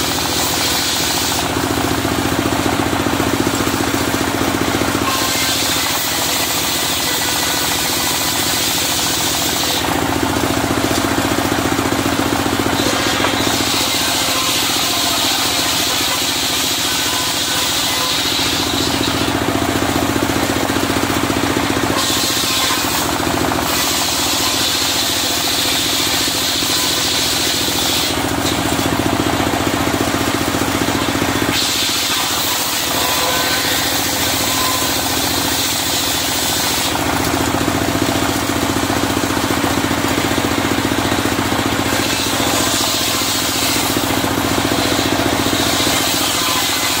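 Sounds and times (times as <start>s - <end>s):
saw blade hiss: 0.0s - 2.0s, 4.6s - 11.2s, 11.8s - 19.5s, 21.8s - 40.4s, 41.2s - 47.0s
sawmill engine running: 0.0s - 47.0s.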